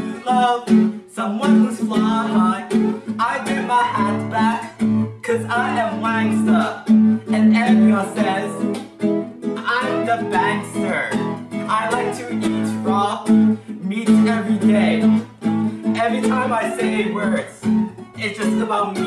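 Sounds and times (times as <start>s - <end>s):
acoustic guitar strumming: 0.0s - 19.0s
man singing: 0.0s - 19.0s.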